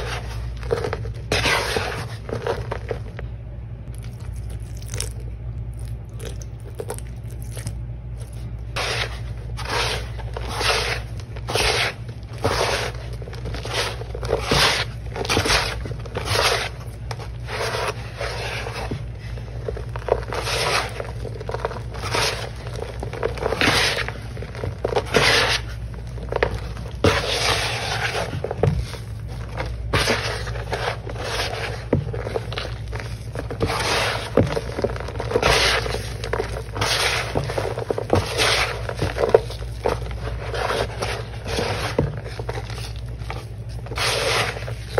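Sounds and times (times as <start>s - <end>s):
sponge crunching and scraping in powder: 0.0s - 3.2s, 3.9s - 44.9s.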